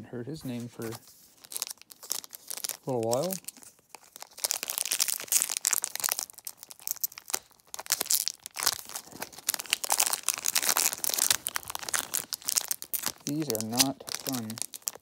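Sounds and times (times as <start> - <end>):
foil wrappers crinkling: 0.7 - 15.0.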